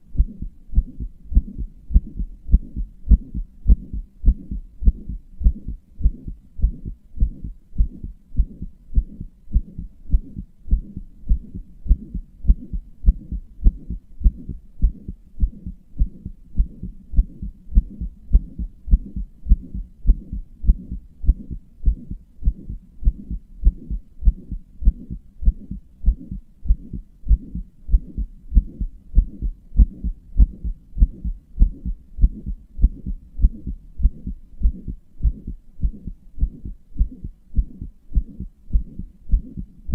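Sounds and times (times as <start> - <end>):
heartbeat dull low thumps: 0.0 - 39.9.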